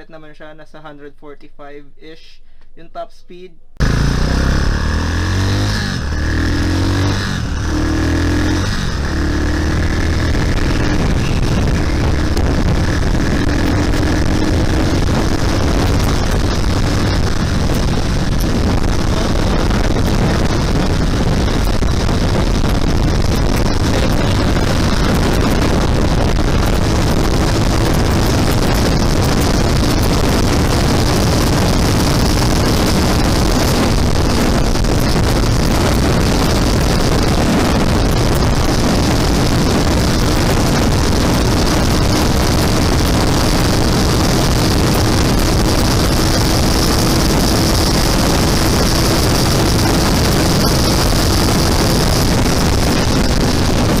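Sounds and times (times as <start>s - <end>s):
motorcycle engine drone: 3.8s - 54.0s
wind rushing over microphone: 3.8s - 54.0s.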